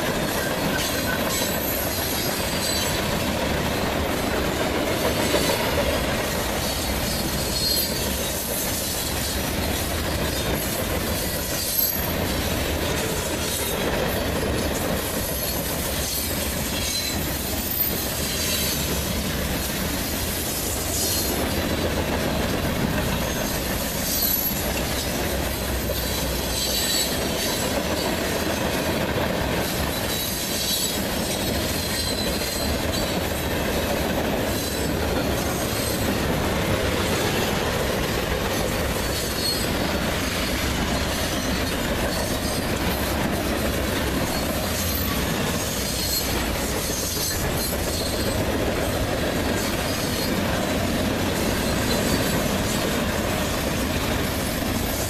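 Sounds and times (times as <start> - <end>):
train wheels rumbling on rails: 0.0 - 55.0
high wheel squeals: 0.2 - 3.3, 6.4 - 12.5, 13.2 - 21.8, 23.2 - 28.2, 29.6 - 52.8.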